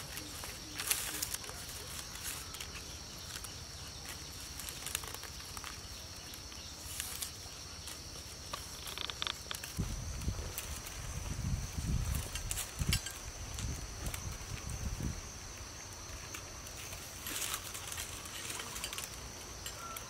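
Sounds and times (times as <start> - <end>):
high insect drone: 0.0 - 20.0
vine strips rustling and clicking: 0.0 - 20.0.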